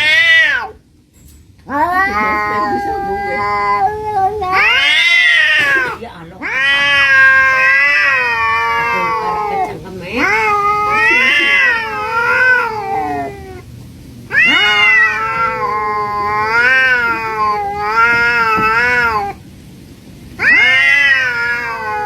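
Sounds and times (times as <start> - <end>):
cat meowing: 0.0 - 0.8, 1.7 - 13.7, 14.3 - 19.4, 20.4 - 22.0.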